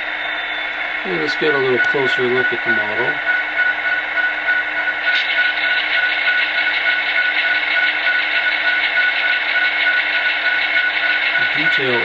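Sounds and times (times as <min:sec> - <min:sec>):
model locomotive engine sound: 0:00.0 - 0:12.0.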